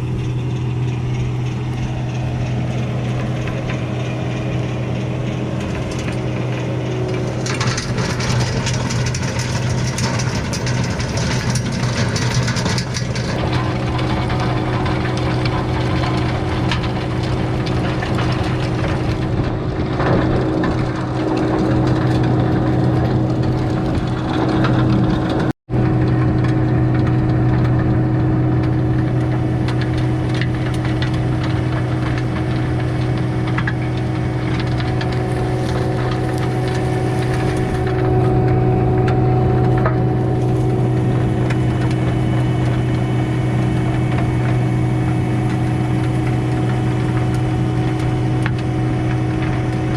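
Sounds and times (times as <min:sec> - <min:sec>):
skid steer engine under load: 0:00.0 - 0:49.9
tiller tines churning soil: 0:00.0 - 0:49.9.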